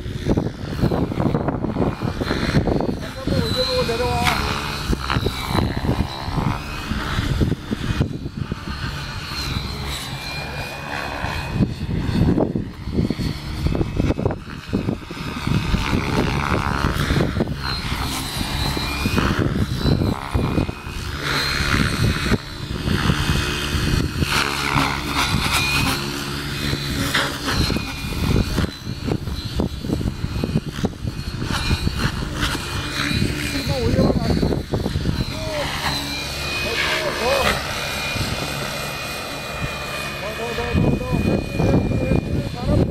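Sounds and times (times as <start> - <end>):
rc helicopter motor whine: 0.0 - 42.9
wind buffeting microphone: 0.0 - 42.9.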